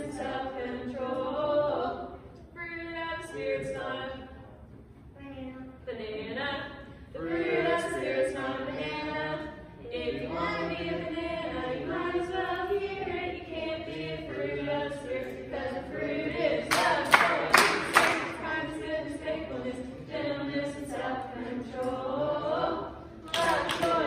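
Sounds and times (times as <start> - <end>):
group singing a worship song: 0.0 - 2.3, 6.6 - 24.0.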